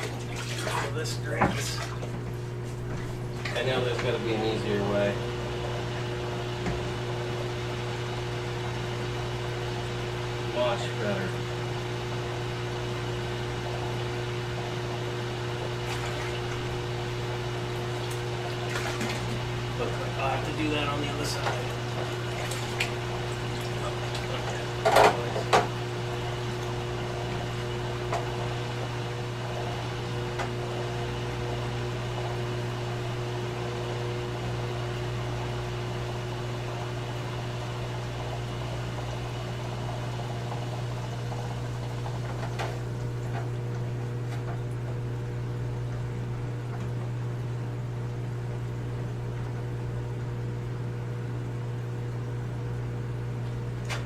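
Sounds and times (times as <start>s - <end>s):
pump humming: 0.0s - 54.0s.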